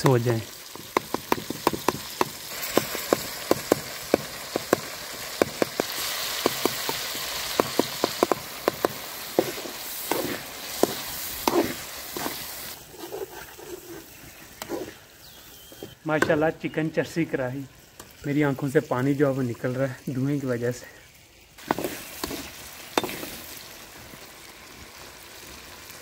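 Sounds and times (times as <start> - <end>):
food sizzling in hot oil: 0.0 - 16.0, 16.9 - 26.0.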